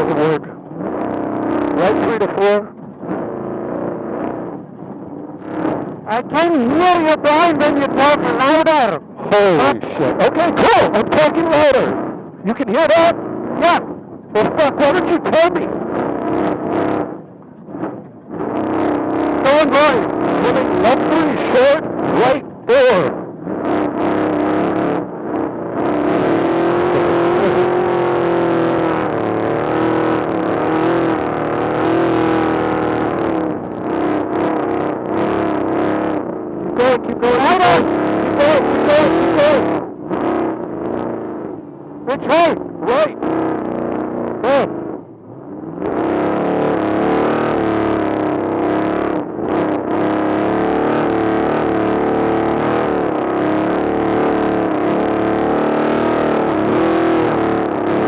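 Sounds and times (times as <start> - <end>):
race engine running at high revs: 0.0 - 58.0.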